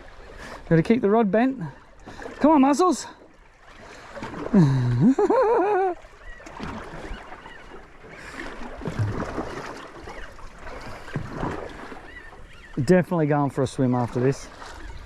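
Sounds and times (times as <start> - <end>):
water washing around boat: 0.0 - 15.0.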